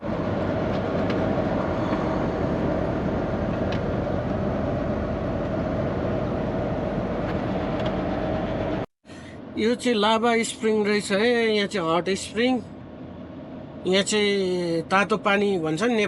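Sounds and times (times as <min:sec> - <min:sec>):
truck engine drone: 0:00.0 - 0:15.2
road noise: 0:00.0 - 0:16.0.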